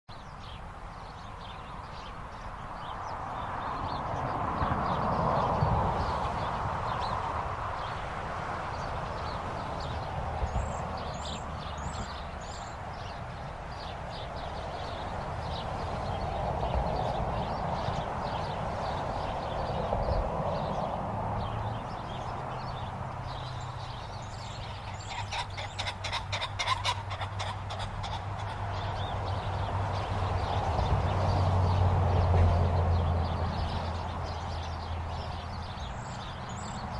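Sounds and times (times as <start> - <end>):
birds chirping: 0.1 - 8.1, 8.7 - 36.9
passing traffic: 0.1 - 36.9.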